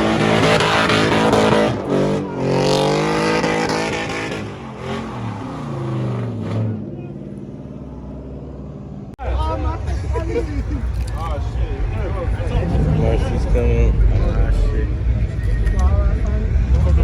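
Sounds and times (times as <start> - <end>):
vehicle engine revving: 0.0 - 9.2, 10.1 - 17.0.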